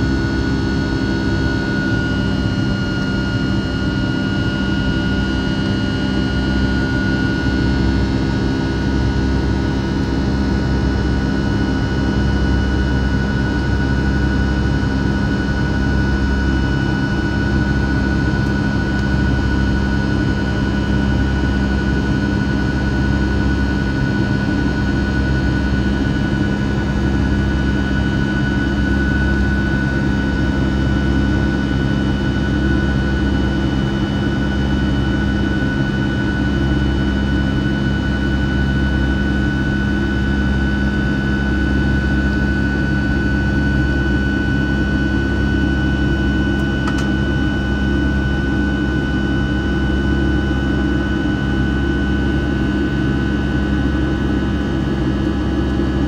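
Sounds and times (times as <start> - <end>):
jet engine high whine: 0.0 - 56.0
jet engine low rumble: 0.0 - 56.0.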